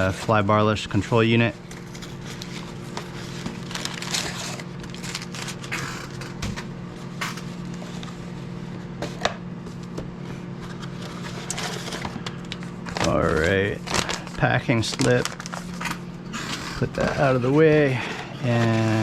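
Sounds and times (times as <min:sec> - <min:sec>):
cardboard and paper crackling: 0:00.0 - 0:08.2, 0:10.6 - 0:19.0
steady low hum: 0:00.0 - 0:19.0.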